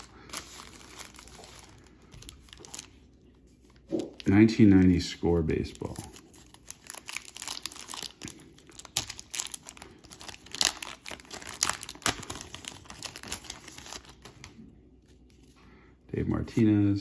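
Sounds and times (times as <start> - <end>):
plastic wrapper crinkling and tearing: 0.0 - 15.4.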